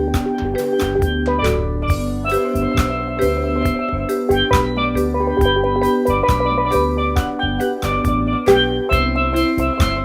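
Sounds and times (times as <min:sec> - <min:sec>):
bass and drum backing track: 0:00.0 - 0:10.0
steel drum reggae melody: 0:00.0 - 0:10.0.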